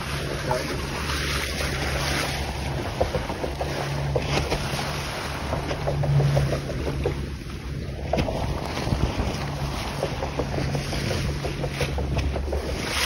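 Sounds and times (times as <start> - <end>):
boat engine drone: 0.0 - 13.0
water rushing along hull: 0.0 - 13.0.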